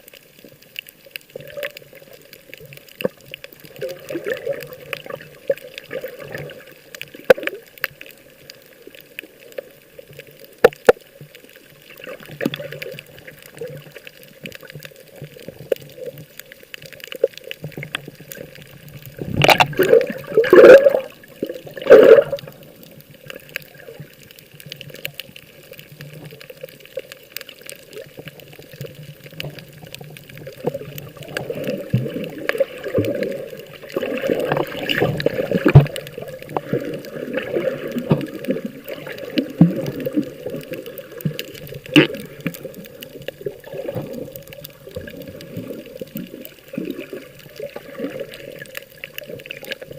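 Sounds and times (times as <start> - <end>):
water sloshing and splashing: 1.3 - 49.9.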